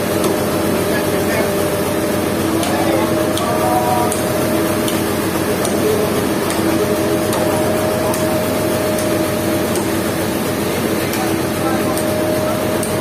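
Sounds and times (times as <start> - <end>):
sawmill machinery drone: 0.0 - 13.0.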